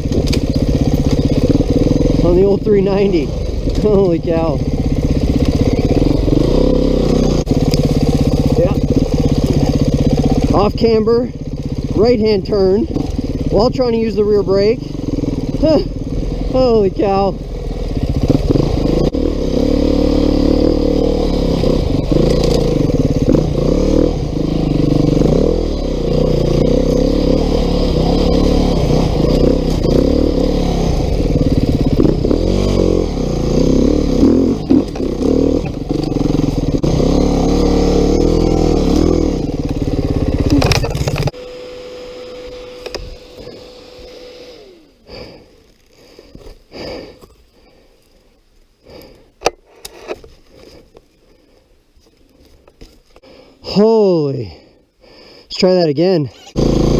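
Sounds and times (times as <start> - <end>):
motorcycle engine revving: 0.0 - 47.8, 56.2 - 56.9.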